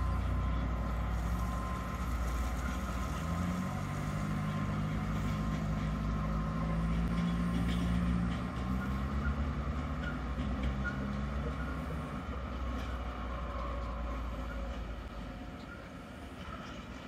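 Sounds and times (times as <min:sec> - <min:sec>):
distant locomotive engine drone: 0:00.0 - 0:17.0
freight wagons rumbling: 0:00.0 - 0:17.0.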